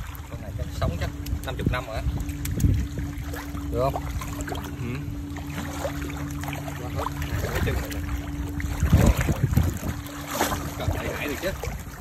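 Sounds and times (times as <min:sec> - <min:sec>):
low motor hum: 0:00.0 - 0:12.0
water sloshing and splashing: 0:00.0 - 0:12.0.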